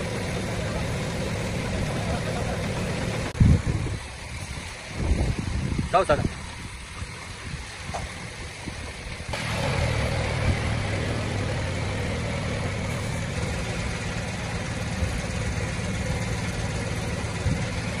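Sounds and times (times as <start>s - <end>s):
car engine starting and idling: 0.0s - 18.0s.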